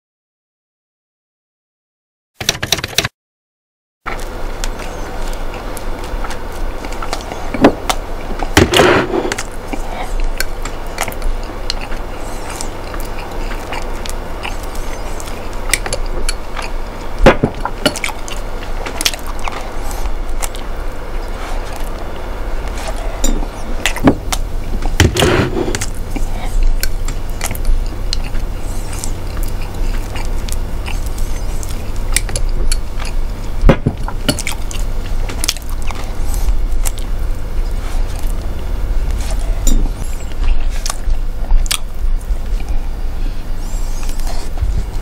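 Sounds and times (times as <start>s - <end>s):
steady low hum: 4.1s - 45.0s.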